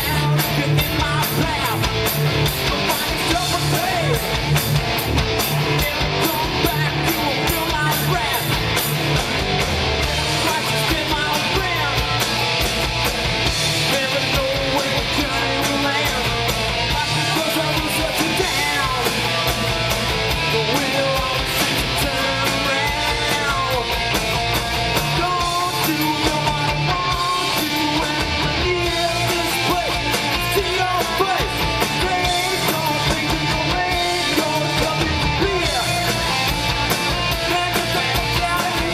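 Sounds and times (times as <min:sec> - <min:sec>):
person singing: 0:00.0 - 0:04.3, 0:05.7 - 0:08.5, 0:10.0 - 0:12.2, 0:13.8 - 0:19.6, 0:20.4 - 0:24.0, 0:25.0 - 0:36.6, 0:37.3 - 0:38.9
bass guitar: 0:00.0 - 0:38.9
distorted electric guitars: 0:00.0 - 0:38.9
drum kit: 0:00.0 - 0:38.9.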